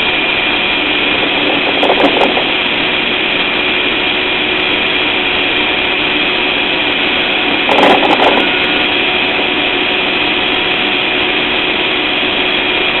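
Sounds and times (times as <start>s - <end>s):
valve hissing and whistling: 0.0s - 13.0s.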